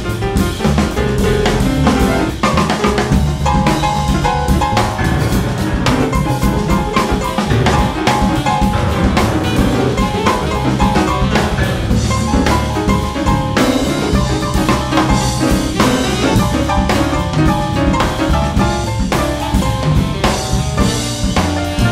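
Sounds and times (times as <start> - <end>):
busy drum kit: 0.0 - 21.9
instrumental jazz quartet: 0.0 - 21.9.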